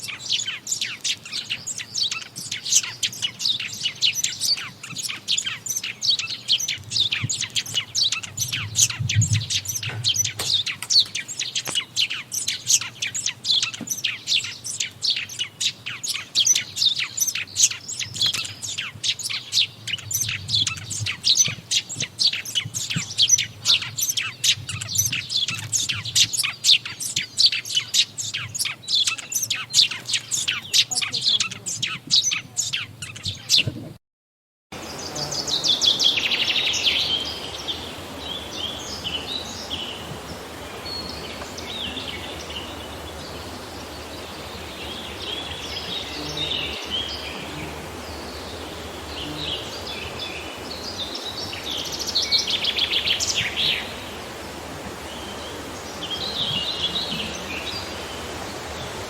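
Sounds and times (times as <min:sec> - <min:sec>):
background hiss: 0:00.0 - 0:32.8, 0:34.8 - 0:59.0
songbirds chirping and trilling: 0:00.0 - 0:33.9, 0:34.8 - 0:59.0.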